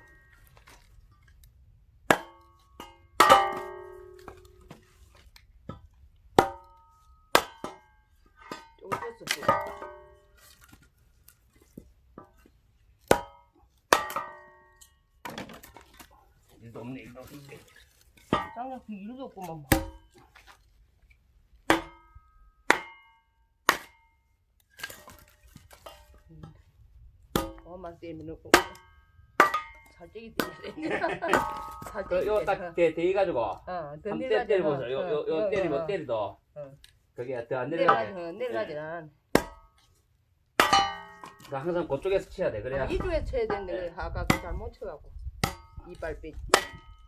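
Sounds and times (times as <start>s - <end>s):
axe splitting firewood: 0.0s - 32.9s, 37.8s - 42.0s, 42.9s - 47.0s.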